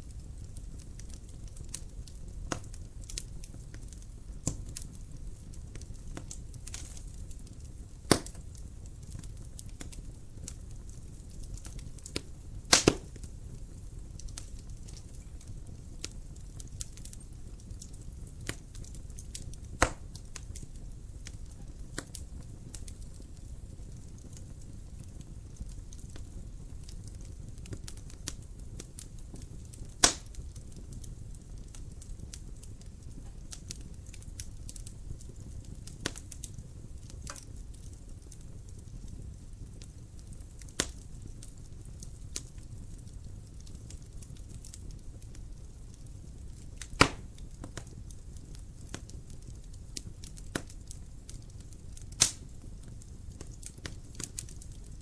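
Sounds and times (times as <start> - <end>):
low rumble of flames: 0.0 - 55.0
wood fire crackling: 0.0 - 55.0
sharp pops of fire: 0.3 - 55.0.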